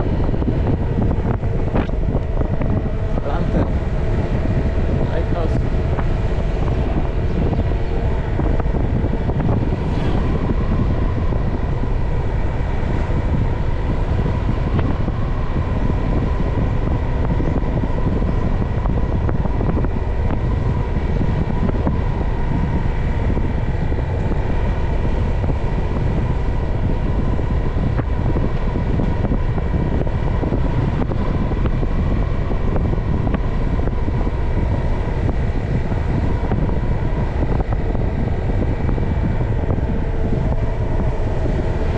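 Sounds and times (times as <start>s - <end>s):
motorcycle cruising: 0.0s - 41.9s
wind rumbling on microphone: 0.0s - 41.9s.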